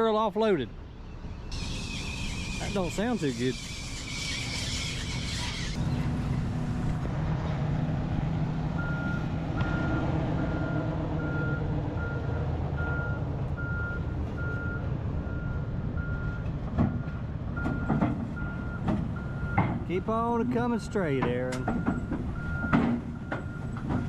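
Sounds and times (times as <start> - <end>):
excavator diesel engine running: 1.5 - 24.0.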